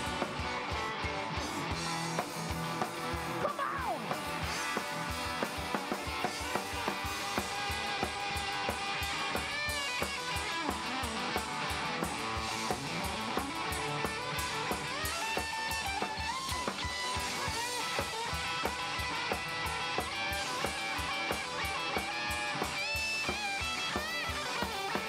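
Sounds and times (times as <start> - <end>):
drum kit beat: 0.0 - 25.0
electric guitars: 0.0 - 25.0
guitar lead line with bent notes: 0.0 - 25.0.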